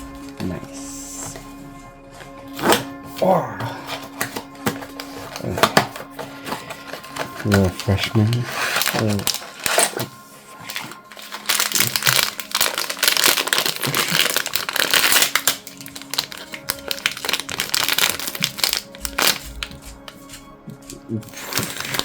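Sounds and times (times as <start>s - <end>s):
plastic packaging crinkling: 3.8s - 22.0s.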